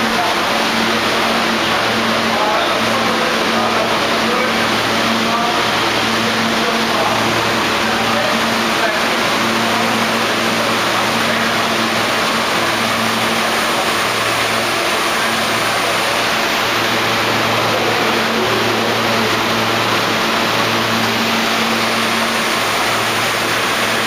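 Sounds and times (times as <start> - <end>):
low electrical hum: 0.0 - 24.0
subway train equipment rushing noise: 0.0 - 24.0.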